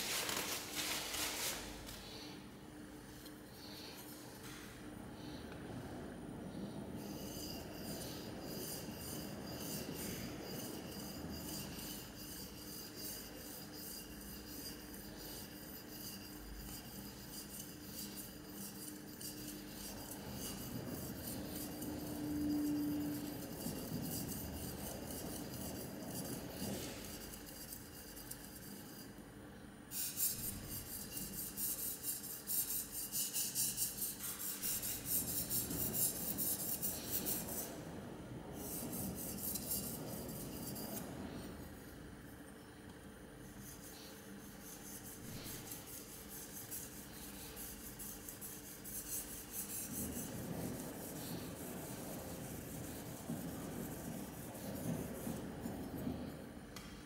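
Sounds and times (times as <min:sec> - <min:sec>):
blade scraping on oil stone: 0:07.0 - 0:29.2, 0:29.9 - 0:37.9, 0:38.6 - 0:41.9, 0:43.6 - 0:56.3.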